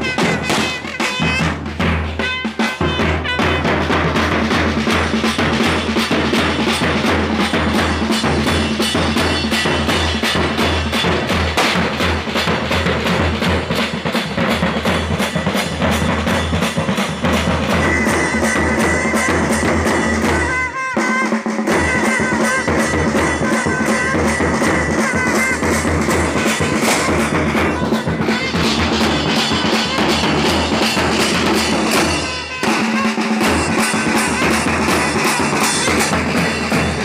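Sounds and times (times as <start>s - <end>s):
fast steady drumbeats: 0.0s - 37.0s.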